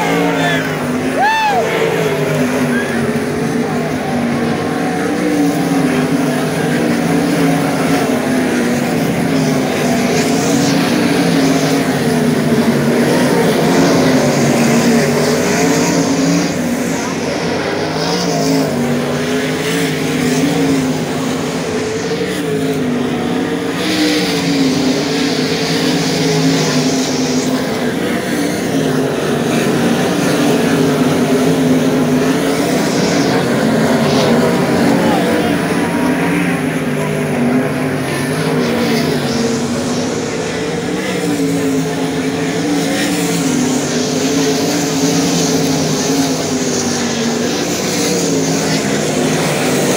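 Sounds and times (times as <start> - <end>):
racing car engines: 0.0 - 49.9.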